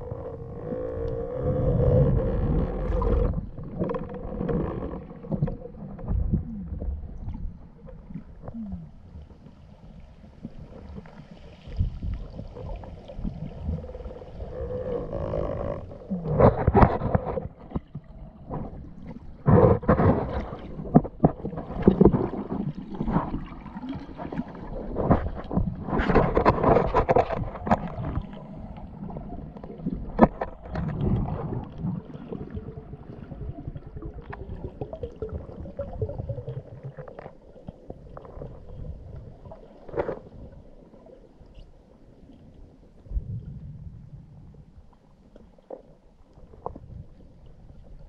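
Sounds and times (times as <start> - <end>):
underwater water rushing and gurgling: 0.0 - 48.0.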